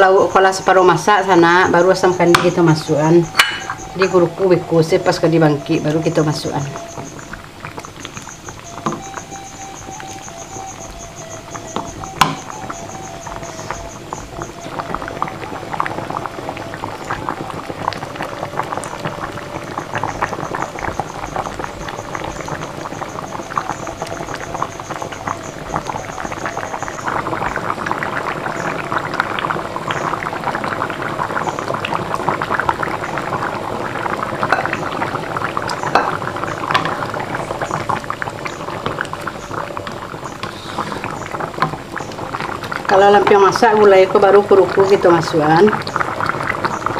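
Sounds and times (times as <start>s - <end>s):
curry bubbling on the boil: 0.0s - 46.9s.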